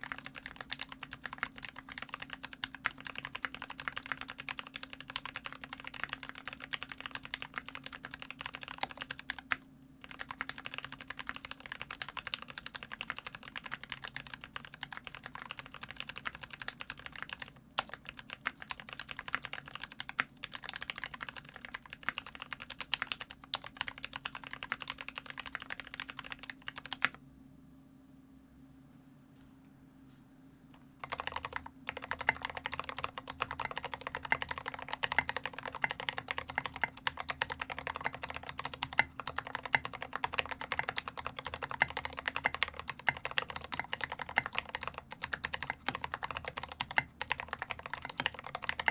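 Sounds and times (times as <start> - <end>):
fast typing on mechanical keyboard: 0.0 - 27.2, 31.0 - 48.9.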